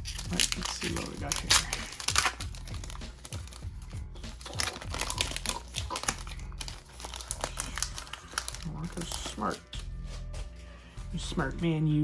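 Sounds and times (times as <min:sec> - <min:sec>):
plastic wrapper crinkling: 0:00.0 - 0:09.7
cards being handled: 0:00.0 - 0:10.7.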